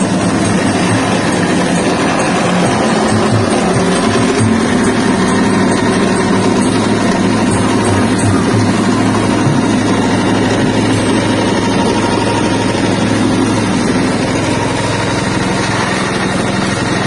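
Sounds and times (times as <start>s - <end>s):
machine motor humming: 0.0s - 17.0s.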